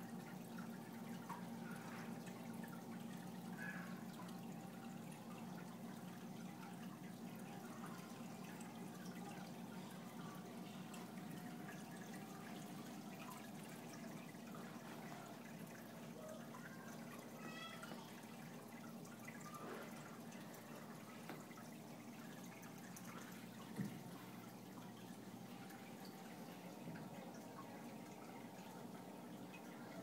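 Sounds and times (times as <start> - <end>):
aquarium water trickling: 0.0 - 30.0.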